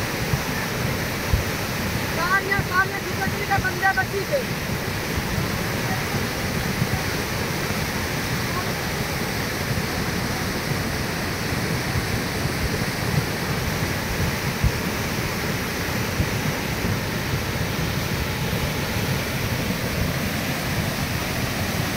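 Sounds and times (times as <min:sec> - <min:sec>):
river torrent rushing: 0:00.0 - 0:21.9.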